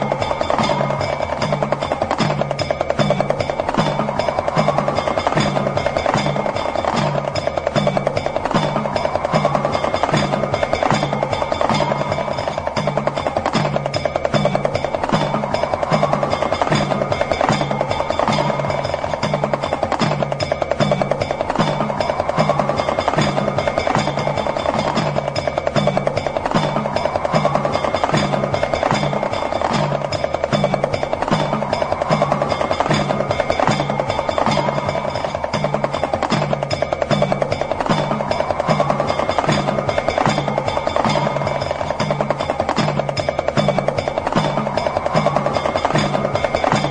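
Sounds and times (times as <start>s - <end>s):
hourglass drum rattling roll: 0.0s - 46.9s.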